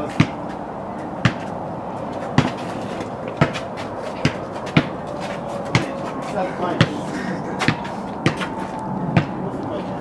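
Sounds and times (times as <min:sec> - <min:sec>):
basketball bouncing on hard ground: 0:00.0 - 0:09.6.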